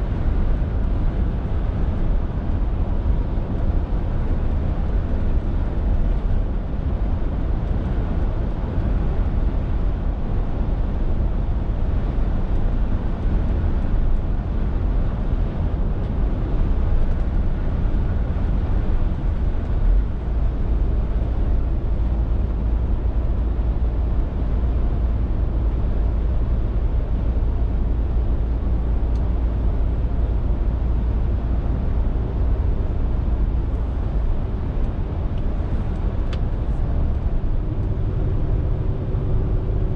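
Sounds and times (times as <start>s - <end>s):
lorry diesel engine drone: 0.0s - 39.9s
tyre and road noise: 0.0s - 39.9s.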